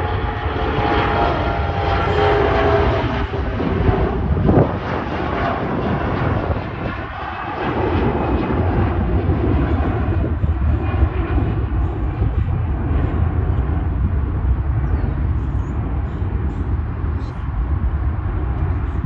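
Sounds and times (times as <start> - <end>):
jet airliner engines rumbling: 0.0 - 19.0.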